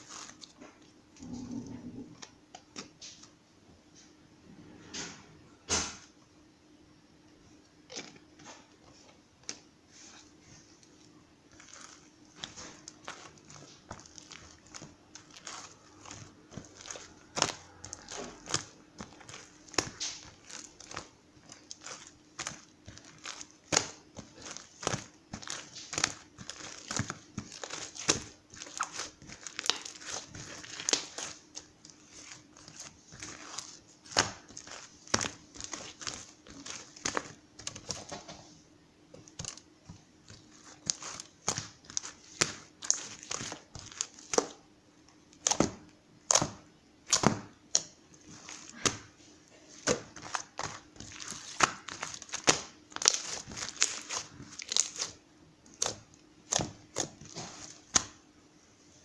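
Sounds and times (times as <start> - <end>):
crinkling and crackling: 0.0 - 4.2, 7.8 - 58.2.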